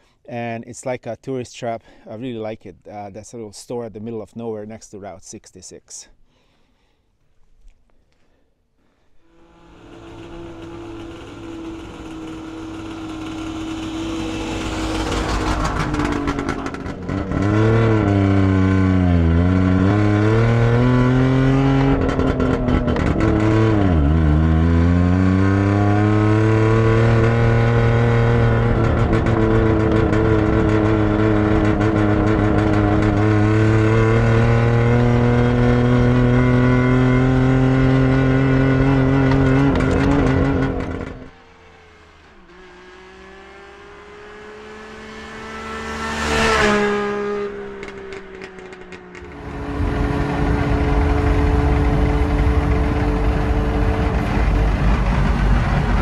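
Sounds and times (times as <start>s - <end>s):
two-stroke van engine: 9.2s - 56.0s.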